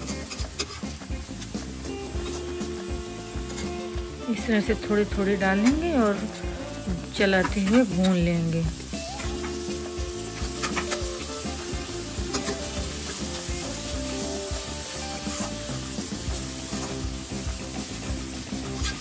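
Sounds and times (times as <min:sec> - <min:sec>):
peas sizzling in oil: 0:00.0 - 0:19.0
spatula scraping metal pan: 0:00.0 - 0:19.0.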